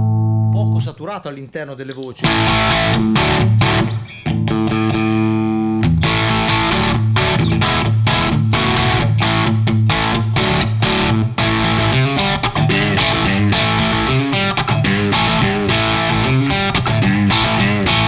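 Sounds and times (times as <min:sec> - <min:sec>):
distorted electric guitar strumming: 0:00.0 - 0:00.6, 0:02.2 - 0:18.0.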